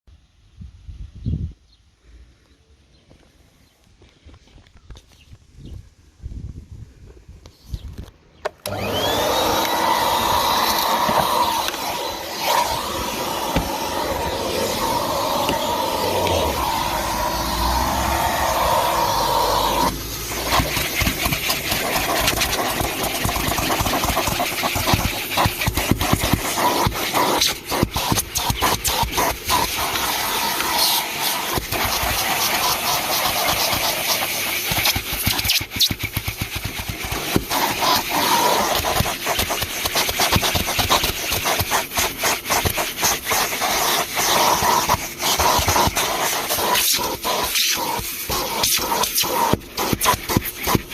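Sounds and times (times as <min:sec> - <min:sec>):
nozzle clicking and scraping: 0:08.0 - 0:50.9
vacuum cleaner running: 0:08.6 - 0:50.9.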